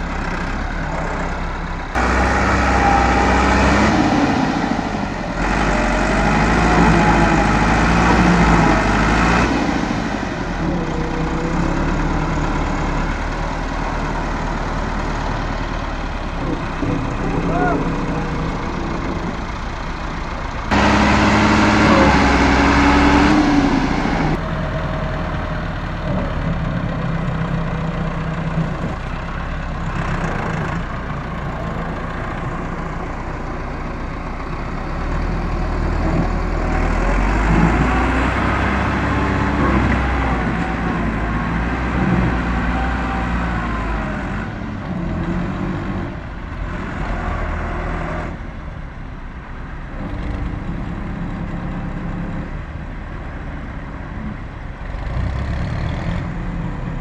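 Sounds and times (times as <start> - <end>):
tractor diesel engine working: 0.0 - 57.0.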